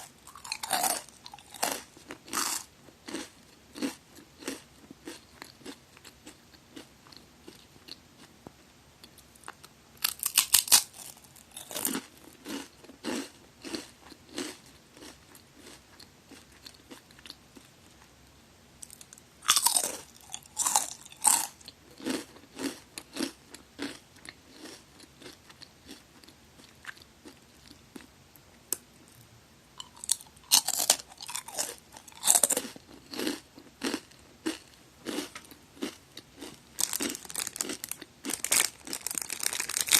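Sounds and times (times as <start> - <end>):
crunchy bites of crackers: 0.0 - 8.0, 9.2 - 17.7, 18.8 - 28.1, 29.8 - 39.9
crunchy chewing: 0.0 - 8.3, 9.0 - 18.1, 18.8 - 28.1, 28.7 - 39.9.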